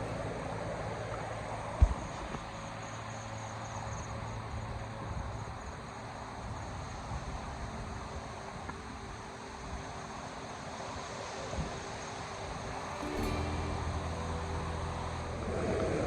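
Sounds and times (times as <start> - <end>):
outdoor noise: 0.0 - 16.0.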